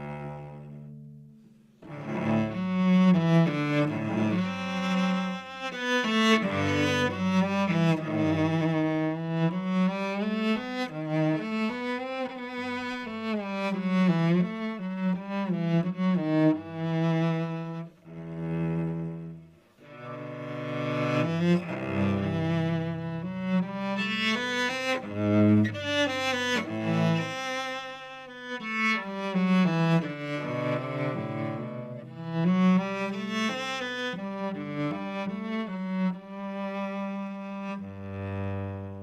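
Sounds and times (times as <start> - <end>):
cello bowed melody: 0.0 - 39.0.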